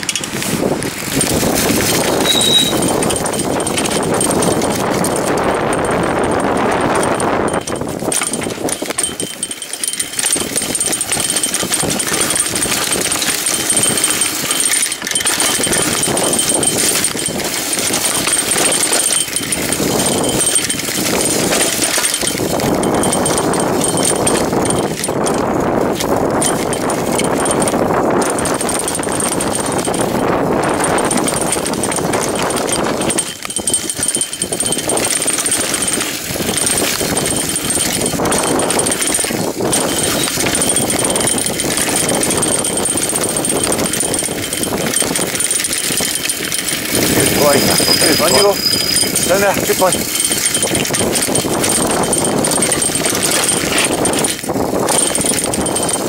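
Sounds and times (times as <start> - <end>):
bike rattling over bumps: 0.0 - 56.0
bike tyres rolling over dirt: 0.0 - 56.0
wind rushing over microphone: 0.0 - 56.0.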